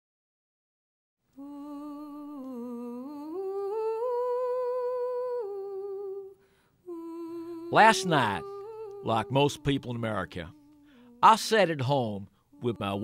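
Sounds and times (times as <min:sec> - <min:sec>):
person humming a slow melody: 0:01.4 - 0:11.3, 0:12.3 - 0:13.0.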